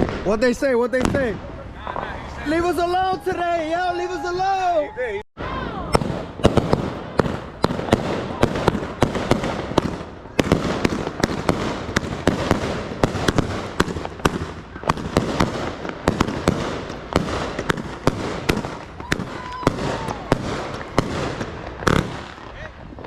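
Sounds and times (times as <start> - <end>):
fireworks bangs and pops: 0.0 - 2.9, 5.9 - 23.0.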